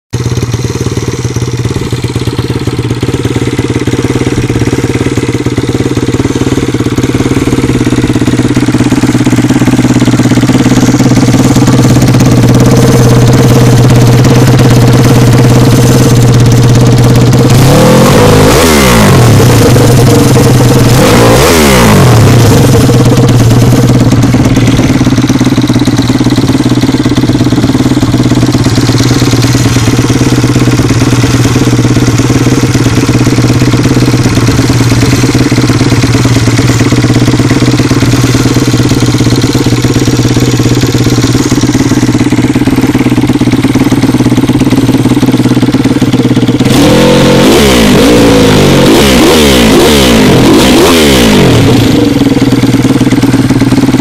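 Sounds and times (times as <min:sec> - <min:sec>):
motorbike engine idling and revving: 0:00.1 - 0:54.0.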